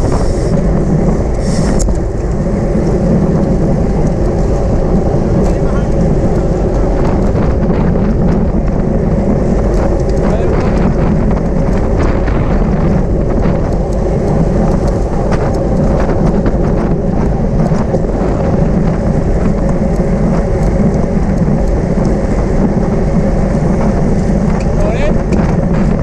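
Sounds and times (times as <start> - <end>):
tyres rumbling on road: 0.0 - 26.0
wind buffeting microphone: 0.0 - 26.0.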